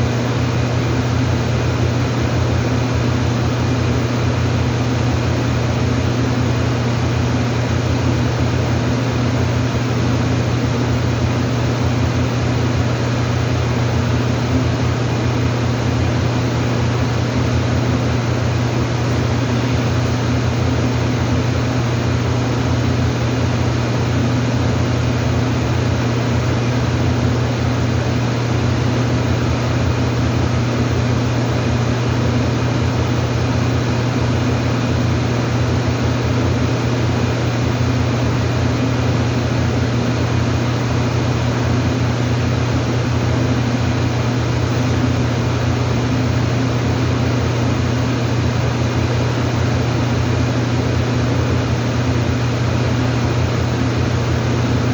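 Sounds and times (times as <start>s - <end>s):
low machine hum: 0.0s - 54.9s.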